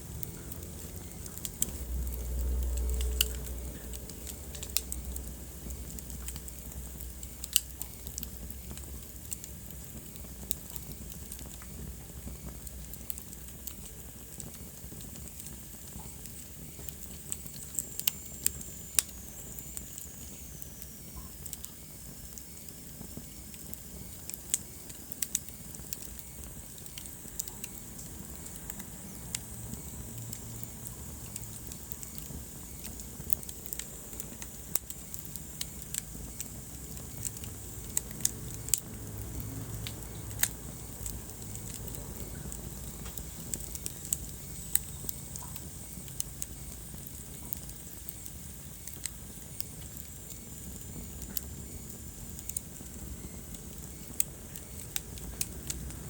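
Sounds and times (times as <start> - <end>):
flames rumbling in fireplace: 0.0 - 56.0
logs crackling and popping: 0.0 - 56.0.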